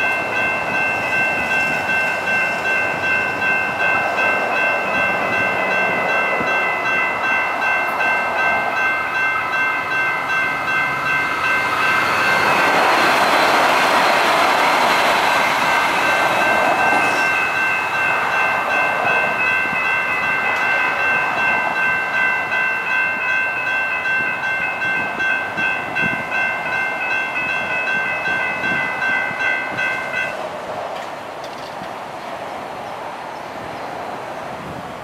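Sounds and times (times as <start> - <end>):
railroad crossing bell ringing: 0.0 - 30.5
light rail train rumbling past: 0.0 - 35.0.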